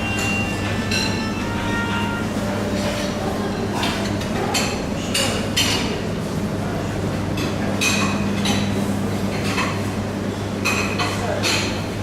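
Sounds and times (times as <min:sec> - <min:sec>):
plates and cutlery clinking: 0:00.0 - 0:06.0, 0:07.4 - 0:09.9, 0:10.6 - 0:11.8.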